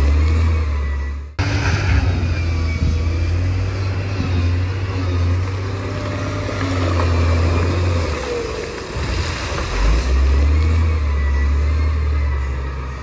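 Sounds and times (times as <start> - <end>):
bulldozer diesel engine: 0.0 - 13.0
churning mud and water: 1.4 - 13.0.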